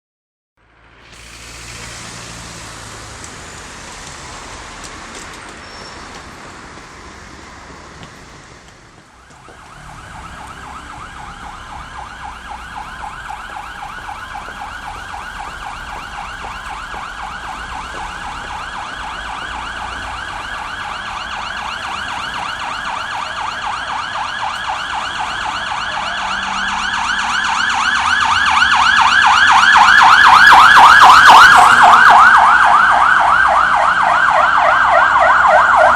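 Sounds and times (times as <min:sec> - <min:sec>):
street noise: 0:00.6 - 0:35.9
fire engine siren yelping: 0:01.0 - 0:06.8, 0:09.1 - 0:35.9.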